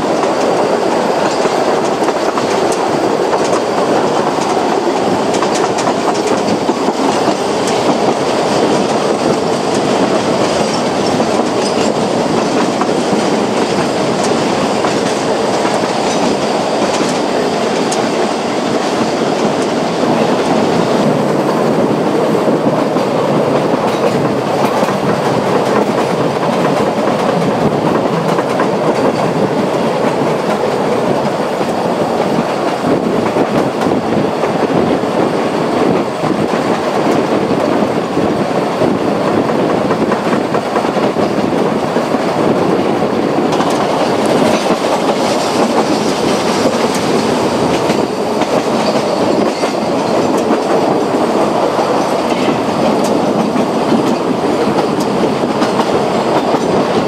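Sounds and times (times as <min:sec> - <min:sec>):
train wheels running on track: 0:00.0 - 0:57.0.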